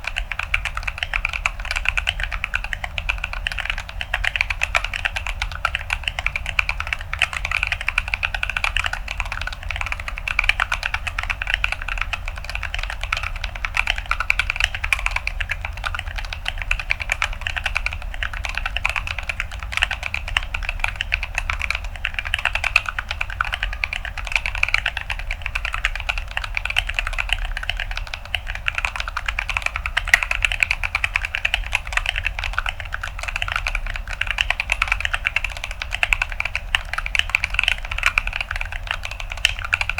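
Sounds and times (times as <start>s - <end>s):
mechanical keyboard typing: 0.0s - 39.9s
steady low hum: 0.0s - 39.9s.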